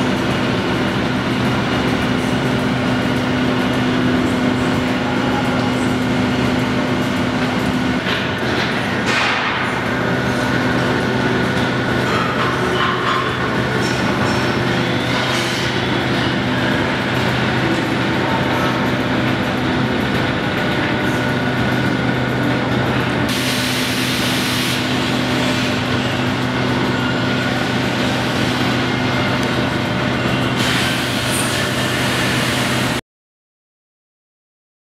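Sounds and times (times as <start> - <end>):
roller conveyor humming: 0.0 - 33.0.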